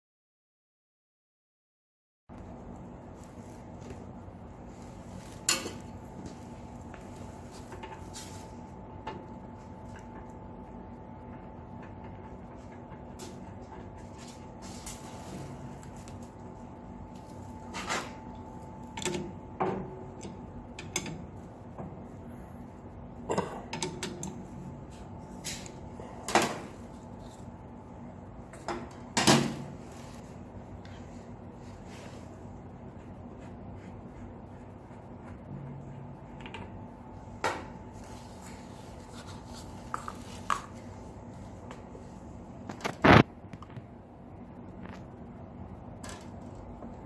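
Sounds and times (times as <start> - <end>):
steady low hum: 2.3 - 47.0.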